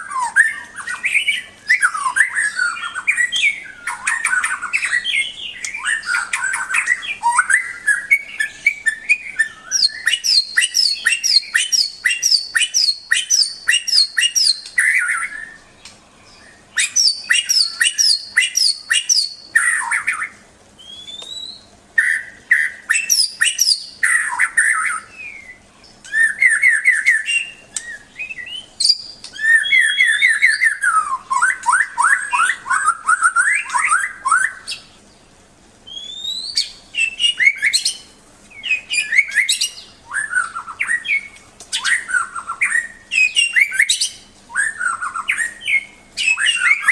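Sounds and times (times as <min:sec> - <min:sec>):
bird singing chirps and trills: 0:00.0 - 0:46.9.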